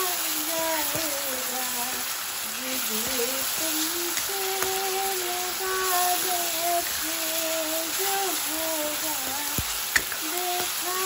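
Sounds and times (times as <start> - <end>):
food frying in oil: 0.0 - 11.0
person singing: 0.0 - 11.0.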